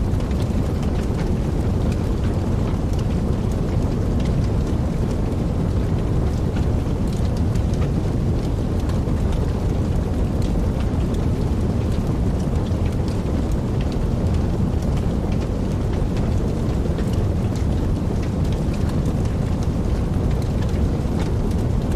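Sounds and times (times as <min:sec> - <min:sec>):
fire crackles and pops: 0:00.0 - 0:21.9
wood fire burning: 0:00.0 - 0:21.9.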